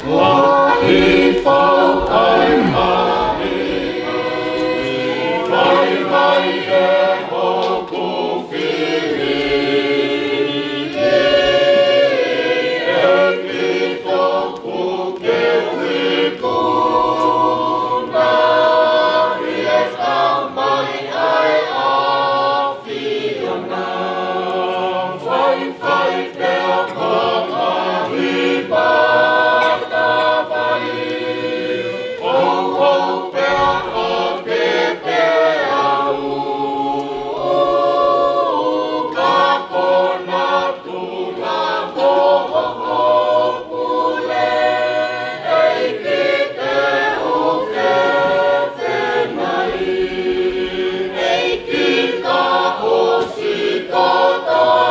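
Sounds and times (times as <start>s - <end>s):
choir singing a hymn: 0.0s - 54.9s.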